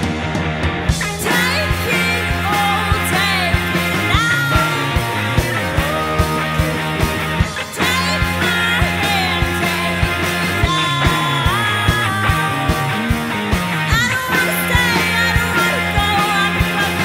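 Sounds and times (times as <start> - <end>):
indie rock song: 0.0 - 17.0
steady drum beat: 0.0 - 17.0.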